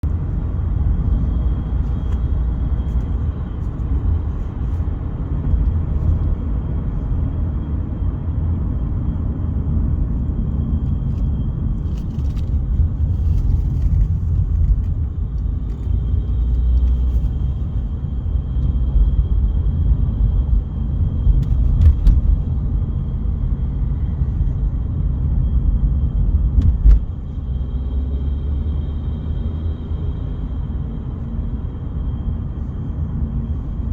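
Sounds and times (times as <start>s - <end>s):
engine and road rumble: 0.0s - 33.9s.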